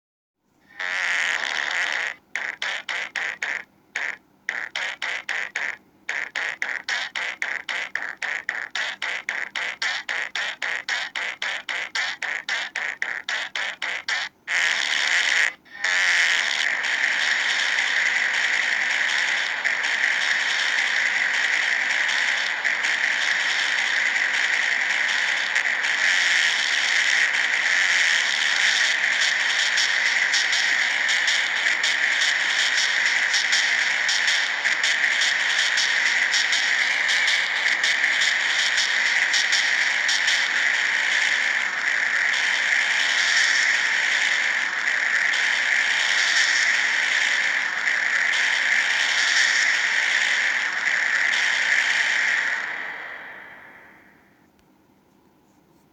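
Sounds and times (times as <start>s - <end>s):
rasping fart sound effect: 0.7s - 54.2s.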